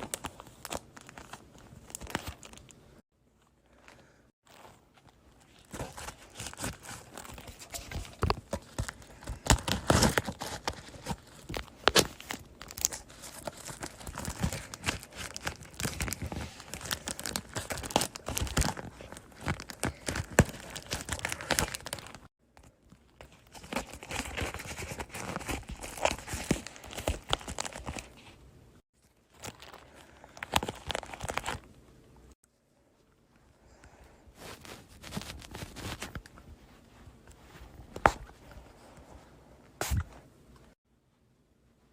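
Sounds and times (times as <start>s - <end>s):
crinkling and crackling: 0.0s - 33.1s, 34.3s - 40.8s.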